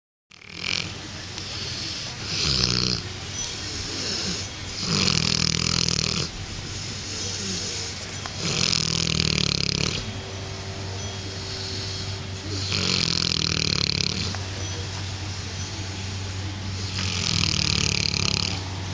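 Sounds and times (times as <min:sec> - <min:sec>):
dog snoring: 0:00.3 - 0:10.2, 0:11.2 - 0:14.5, 0:16.7 - 0:18.7
dog breathing: 0:00.4 - 0:10.2, 0:10.8 - 0:18.8.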